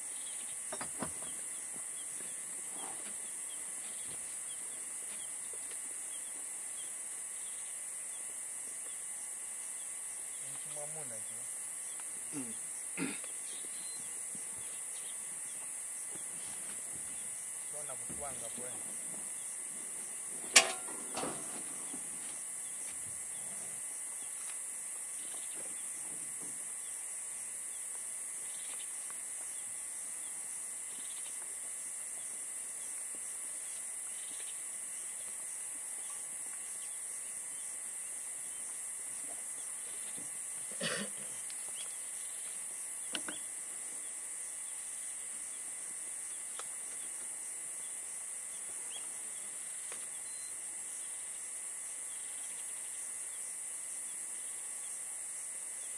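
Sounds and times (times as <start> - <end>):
high-pitched insect buzz: 0.0 - 55.9.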